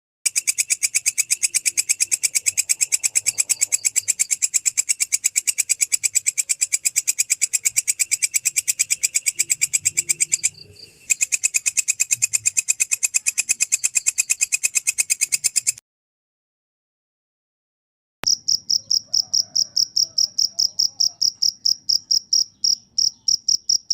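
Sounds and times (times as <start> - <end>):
insect chirping: 0.3 - 15.8, 18.2 - 23.9.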